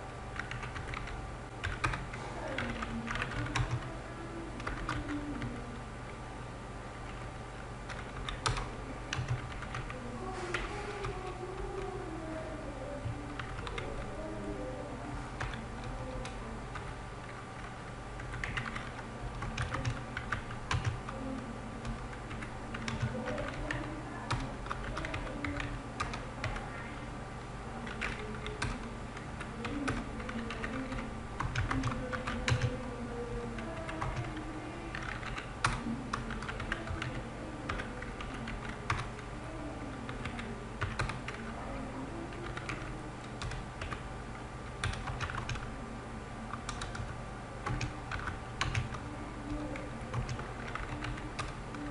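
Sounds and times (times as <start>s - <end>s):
steady low hum: 0.0s - 51.9s
computer keyboard typing: 0.4s - 3.9s, 4.5s - 5.7s, 7.0s - 12.0s, 13.0s - 14.1s, 15.3s - 26.7s, 27.8s - 39.2s, 39.9s - 41.6s, 42.3s - 44.0s, 44.7s - 45.7s, 46.5s - 51.9s.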